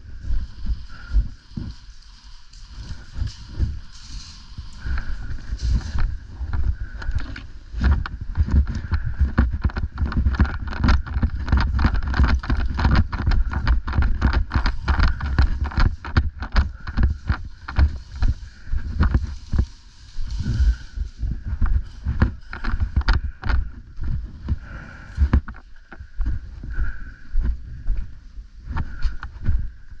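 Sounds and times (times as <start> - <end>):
footsteps and gear jostling: 0.0 - 30.0
wind buffeting microphone: 0.0 - 30.0.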